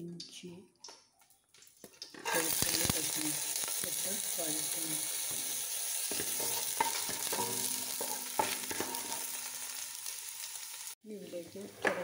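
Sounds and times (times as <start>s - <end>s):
ginger and garlic sizzling in oil: 1.8s - 12.0s.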